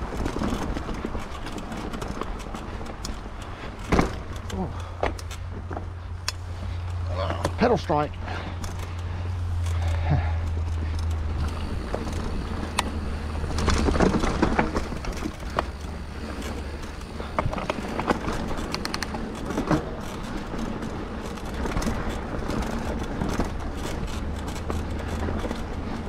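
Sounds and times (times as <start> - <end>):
bike chain clicking and rattling: 0.0 - 26.0
tyres rolling on dirt: 0.0 - 26.0.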